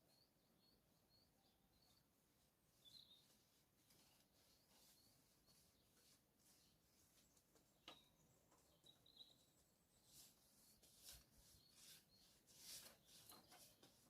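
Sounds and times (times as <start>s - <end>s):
faint high bird chirps: 0.0s - 14.0s.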